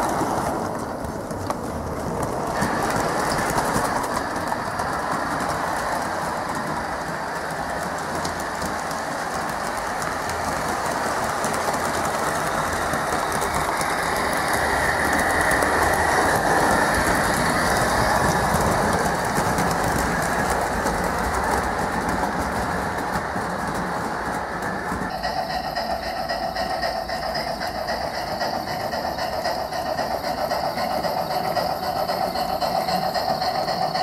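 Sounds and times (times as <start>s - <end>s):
model train wheels clattering on rails: 0.0s - 34.0s.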